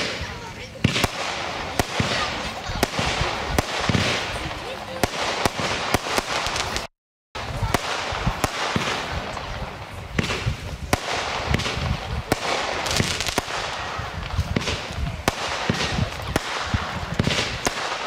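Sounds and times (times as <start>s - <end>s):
continuous hiss: 0.0s - 18.0s
firework bangs: 0.0s - 18.0s.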